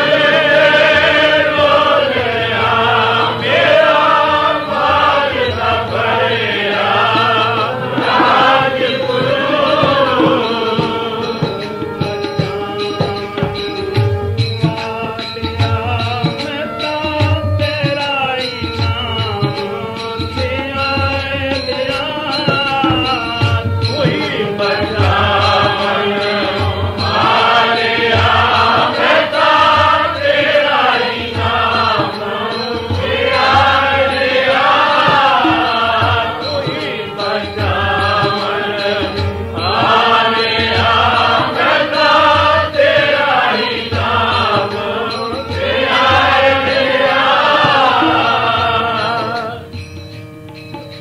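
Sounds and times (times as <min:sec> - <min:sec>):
devotional hymn singing: 0:00.0 - 0:50.3
harmonium chords: 0:00.0 - 0:51.0
tabla beat: 0:00.0 - 0:51.0.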